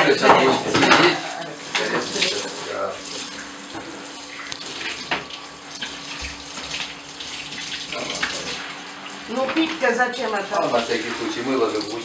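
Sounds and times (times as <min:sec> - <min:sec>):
shower water spraying into bathtub: 0:00.0 - 0:12.0.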